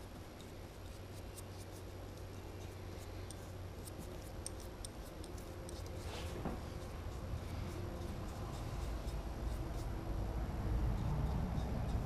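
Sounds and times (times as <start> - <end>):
paintbrush clicks and dabs: 0.0 - 10.0
low steady hum: 0.0 - 12.0.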